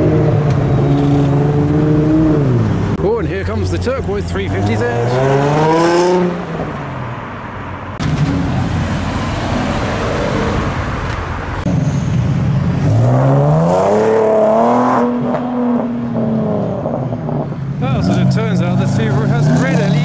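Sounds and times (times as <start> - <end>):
car engine revving: 0.0 - 11.8, 12.6 - 20.0.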